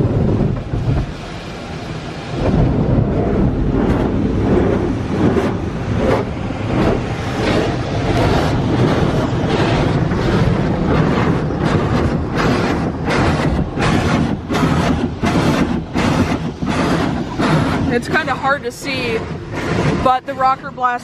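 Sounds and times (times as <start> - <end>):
low rumble of wash machinery: 0.0 - 21.0
water spraying against car: 0.0 - 21.0.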